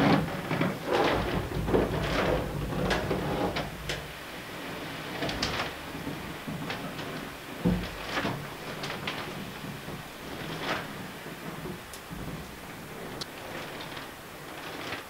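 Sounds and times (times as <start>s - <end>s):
wind gusting across microphone: 0.0s - 15.0s.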